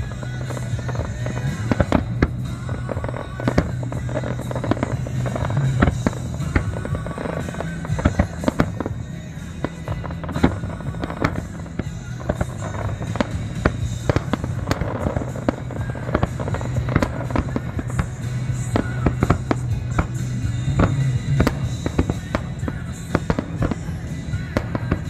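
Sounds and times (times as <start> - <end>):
background music: 0.0 - 25.0
fireworks bangs and crackles: 0.0 - 25.0.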